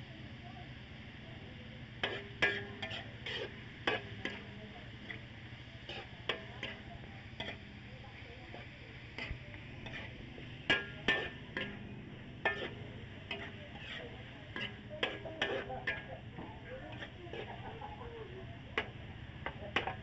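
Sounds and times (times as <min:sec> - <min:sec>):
faint frying sizzle: 0:00.0 - 0:20.0
metal spatula scraping a wok: 0:01.9 - 0:20.0.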